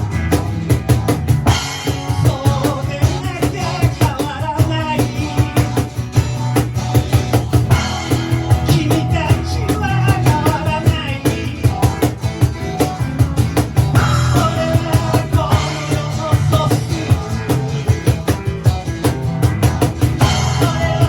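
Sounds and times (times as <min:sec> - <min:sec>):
fast drum beat: 0:00.0 - 0:21.0
live rock band playing: 0:00.0 - 0:21.0.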